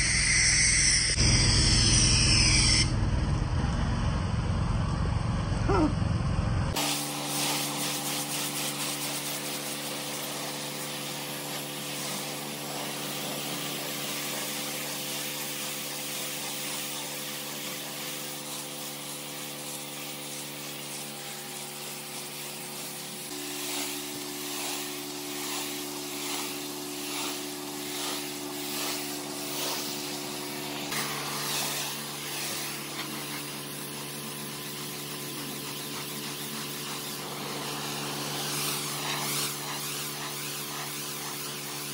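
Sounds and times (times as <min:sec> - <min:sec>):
pressure washer machine hum: 0:00.0 - 0:41.9
pressure washer jet hissing: 0:06.7 - 0:41.9.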